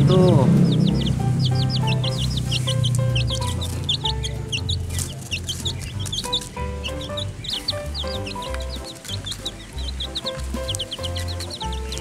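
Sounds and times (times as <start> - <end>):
baby chicks peeping: 0.0 - 12.0
soft background music: 0.0 - 12.0.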